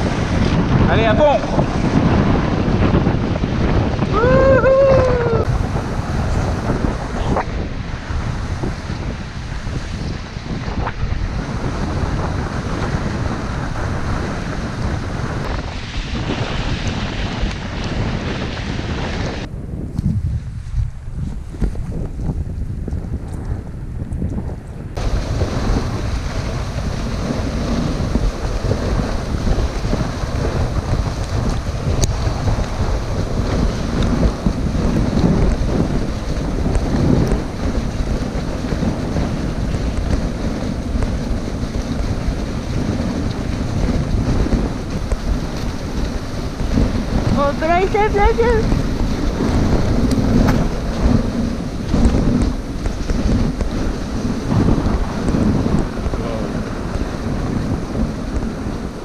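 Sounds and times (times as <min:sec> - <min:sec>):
sled running on snow: 0:00.0 - 0:59.0
wind buffeting microphone: 0:00.0 - 0:59.0.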